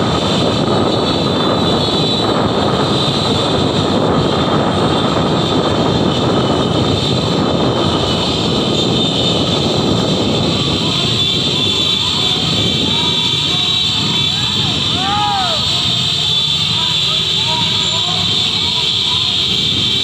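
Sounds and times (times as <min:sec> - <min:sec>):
wind rushing: 0:00.0 - 0:16.2
traffic noise: 0:00.0 - 0:20.0.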